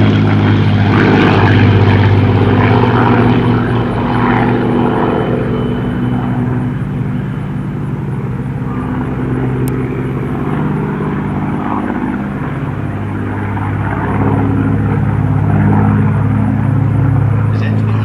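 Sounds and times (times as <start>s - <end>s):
propeller plane engine drone: 0.0s - 18.0s.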